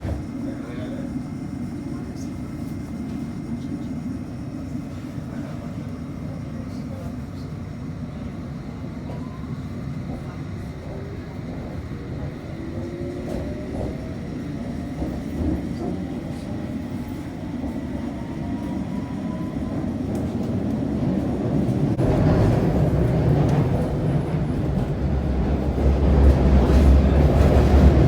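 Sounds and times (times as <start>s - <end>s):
train rumble: 0.0s - 28.0s
underground train motor whine: 0.0s - 28.0s.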